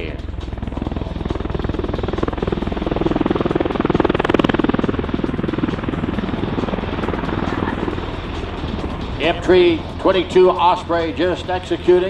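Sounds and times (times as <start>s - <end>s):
turbine engines whining: 0.0s - 12.0s
rotors beating fast: 0.3s - 12.0s.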